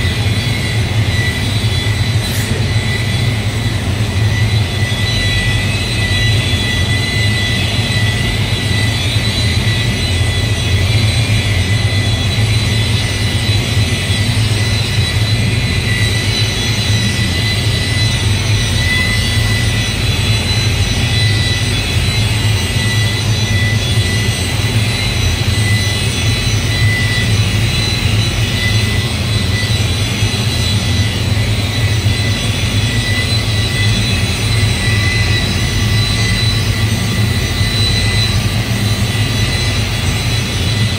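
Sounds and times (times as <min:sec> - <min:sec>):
machine drone with high whine: 0:00.0 - 0:40.9.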